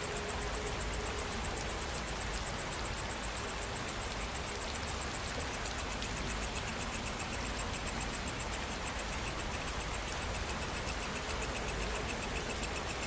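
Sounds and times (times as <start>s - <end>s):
high-pitched pulsing insect call: 0.0s - 13.0s
lower insect call: 0.0s - 13.0s
steady rain: 0.0s - 13.0s.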